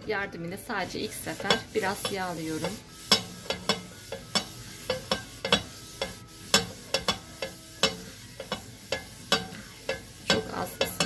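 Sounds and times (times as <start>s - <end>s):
faint sizzle of frying: 0.6s - 11.0s
pan knocking on stove grate: 1.4s - 11.0s.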